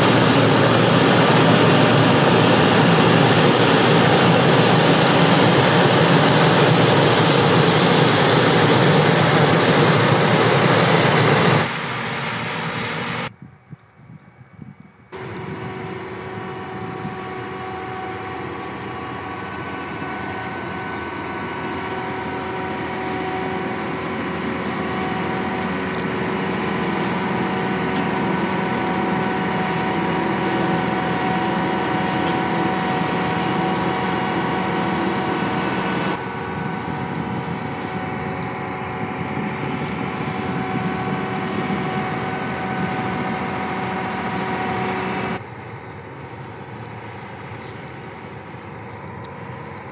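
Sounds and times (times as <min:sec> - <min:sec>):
combine harvester engine hum: 0:00.0 - 0:49.9.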